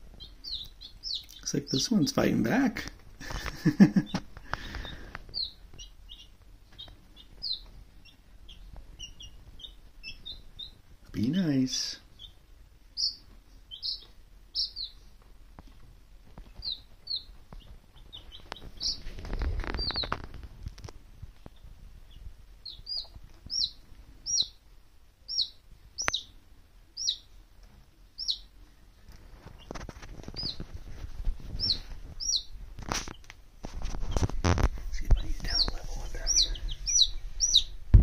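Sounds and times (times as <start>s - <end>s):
chicks scratching in bedding: 0.0s - 24.6s, 27.0s - 38.0s
baby chicks peeping: 0.0s - 38.0s.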